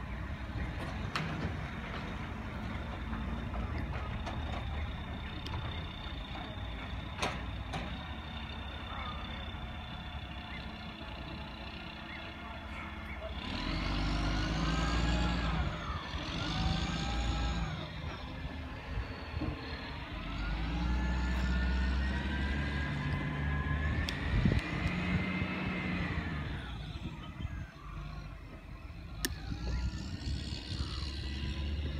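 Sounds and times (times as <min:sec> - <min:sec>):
distant diesel truck engine: 0:00.0 - 0:31.9.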